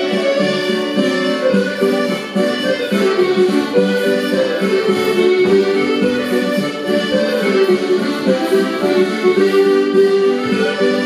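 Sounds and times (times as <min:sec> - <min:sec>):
accordion: 0:00.0 - 0:11.0
fiddle: 0:00.0 - 0:11.0.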